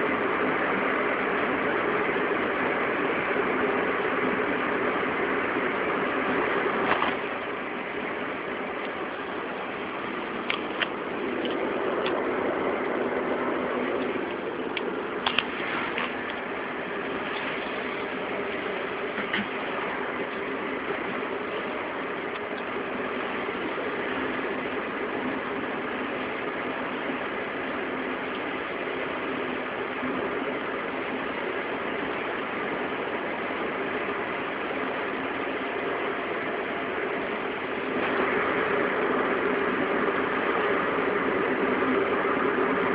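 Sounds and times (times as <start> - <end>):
car running drone: 0.0 - 42.9.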